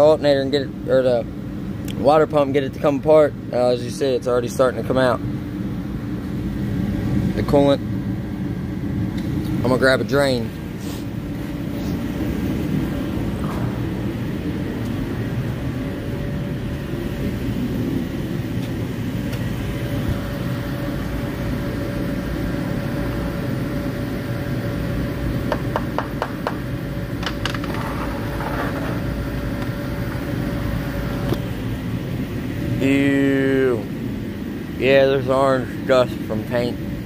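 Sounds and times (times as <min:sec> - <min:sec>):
mechanical hum: 0:00.0 - 0:37.0.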